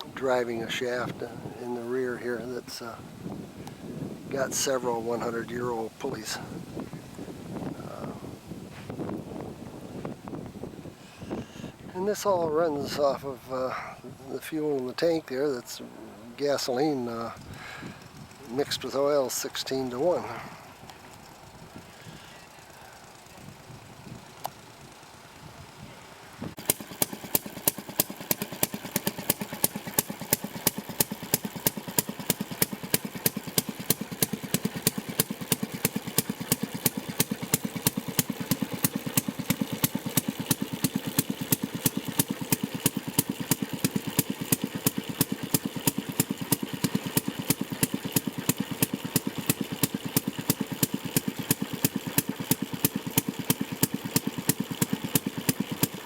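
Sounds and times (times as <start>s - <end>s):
two-stroke engine running: 0.0s - 56.0s.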